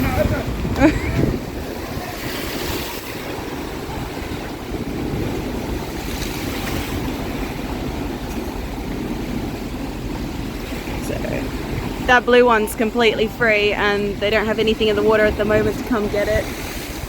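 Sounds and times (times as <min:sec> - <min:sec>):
heavy waves: 0:00.0 - 0:17.0
strong wind on microphone: 0:00.0 - 0:17.0.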